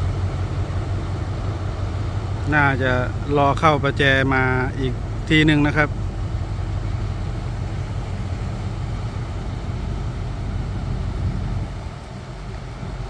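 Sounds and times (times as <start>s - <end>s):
locomotive engine hum: 0.0s - 13.0s
road traffic: 0.0s - 13.0s.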